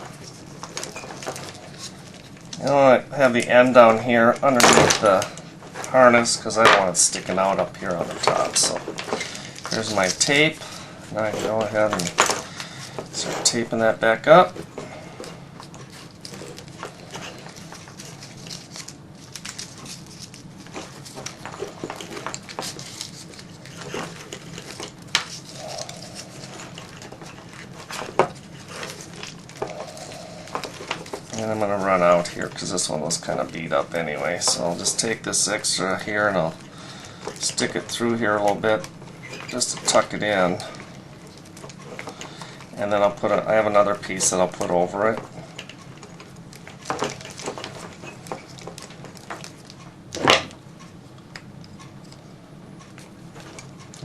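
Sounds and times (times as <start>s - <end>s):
tape crackling and rustling on wires: 0.0s - 54.0s.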